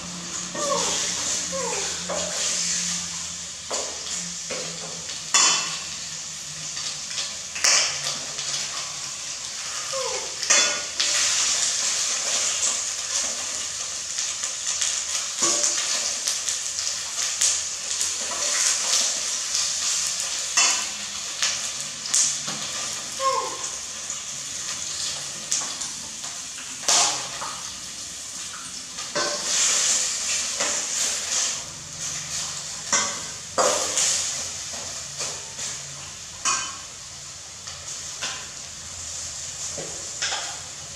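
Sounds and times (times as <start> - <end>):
food sizzling in a pot: 0.0 - 40.9.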